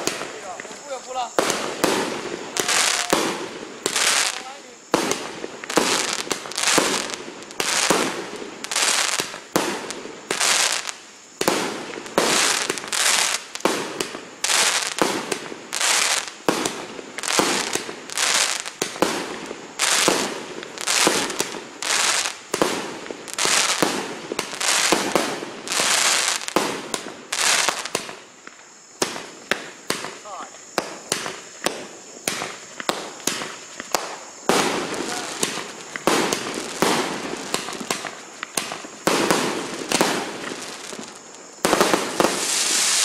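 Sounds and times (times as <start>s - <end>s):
fireworks firing with hiss: 0.0s - 43.0s.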